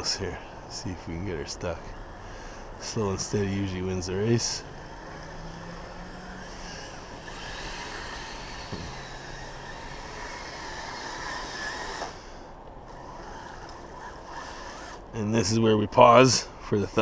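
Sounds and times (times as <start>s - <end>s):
electric motor whine: 0.0s - 15.6s.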